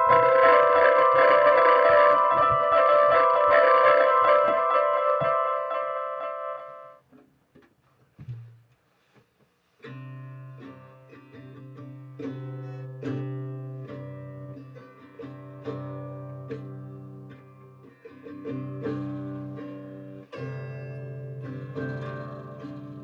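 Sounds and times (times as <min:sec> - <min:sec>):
plucked string instrument music: 0:00.0 - 0:07.0, 0:09.8 - 0:23.0.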